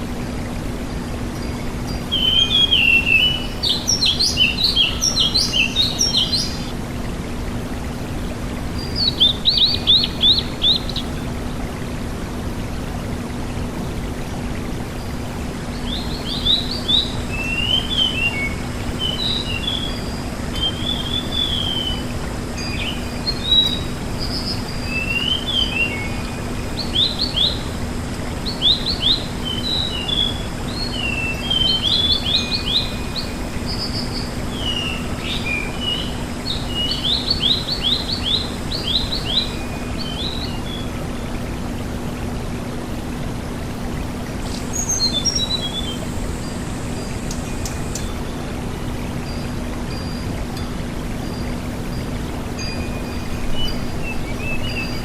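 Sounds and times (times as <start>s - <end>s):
songbird singing: 0.0s - 42.3s, 43.6s - 55.0s.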